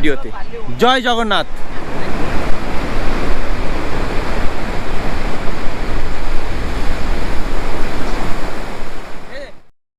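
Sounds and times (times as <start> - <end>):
wind buffeting microphone: 0.0 - 9.6
sea surf breaking on beach: 0.8 - 9.7.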